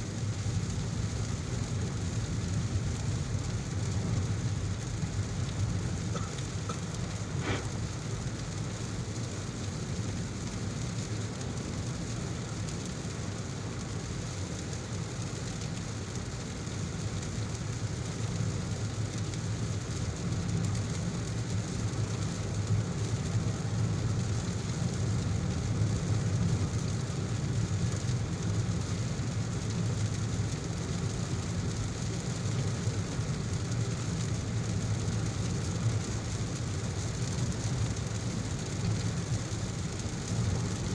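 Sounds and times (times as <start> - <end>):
car driving on wet road: 0.0 - 40.9
heavy rain: 0.0 - 40.9.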